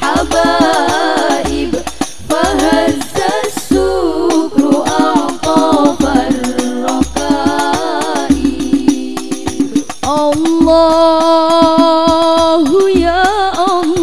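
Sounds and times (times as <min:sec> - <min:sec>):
low bass drum thumps: 0:00.0 - 0:12.0
frame drums beating: 0:00.0 - 0:14.0
girls singing: 0:00.0 - 0:14.0.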